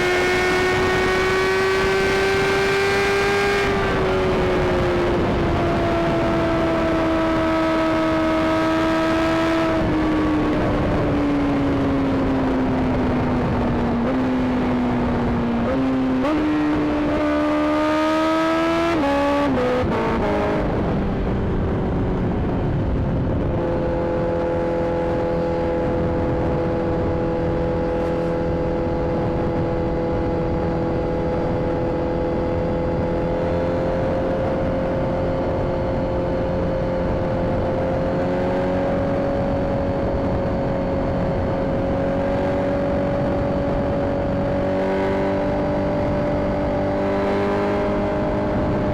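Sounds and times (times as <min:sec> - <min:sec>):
motorcycle engine revving: 0:00.0 - 0:48.9
wind rush: 0:00.0 - 0:48.9.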